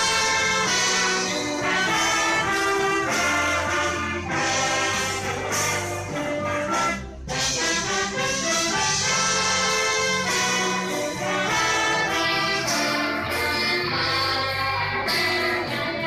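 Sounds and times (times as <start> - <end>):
brass instruments: 0.0 - 16.0
orchestra playing: 0.0 - 16.0.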